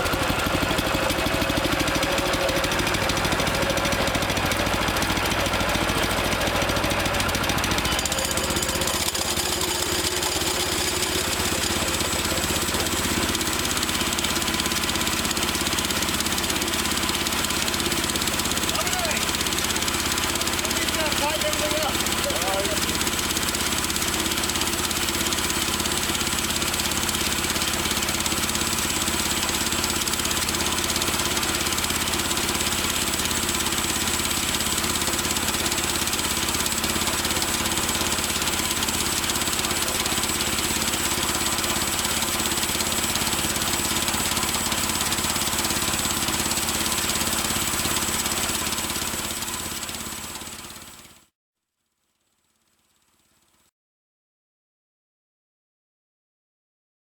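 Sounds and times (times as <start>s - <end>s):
small gasoline engine running: 0.0s - 51.3s, 52.4s - 53.7s.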